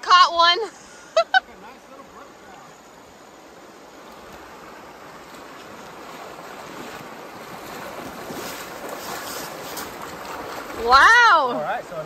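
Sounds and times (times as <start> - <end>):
legs wading through water: 0.4 - 12.0
stream rushing over rocks: 1.5 - 12.0.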